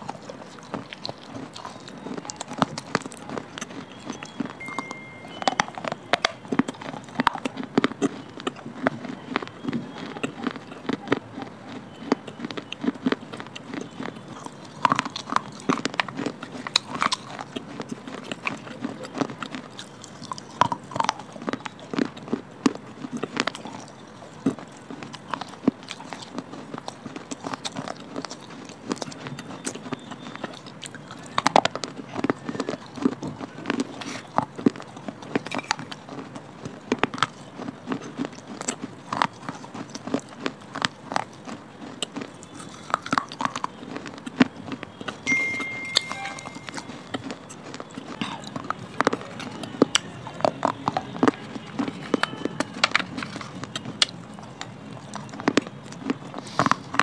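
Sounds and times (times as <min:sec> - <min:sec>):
crunching and chewing: 0:00.0 - 0:57.0.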